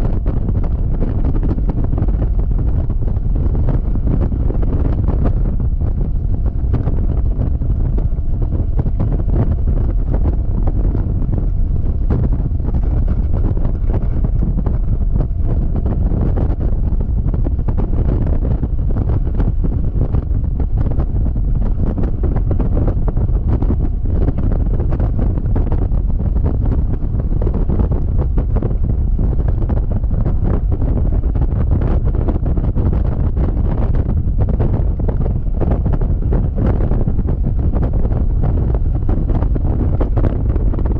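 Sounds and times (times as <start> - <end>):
wind blasting microphone: 0.0 - 40.9.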